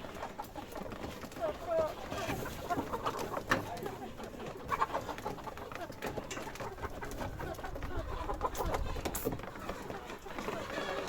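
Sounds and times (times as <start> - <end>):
hens clucking and calling: 0.0 - 11.0.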